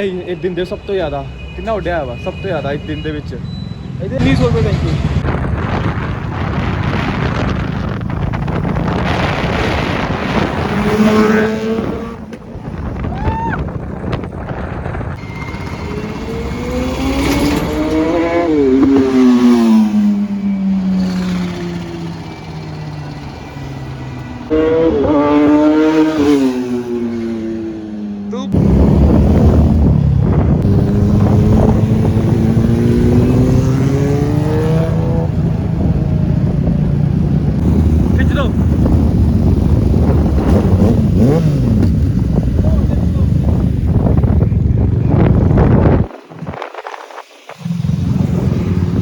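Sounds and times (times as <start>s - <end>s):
motorcycle engine revving: 4.2s - 12.9s, 14.0s - 49.0s.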